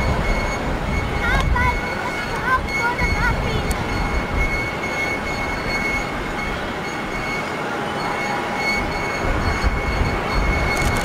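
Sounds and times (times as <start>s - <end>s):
high engine whine: 0.0s - 11.0s
jet engines roaring: 0.0s - 11.0s.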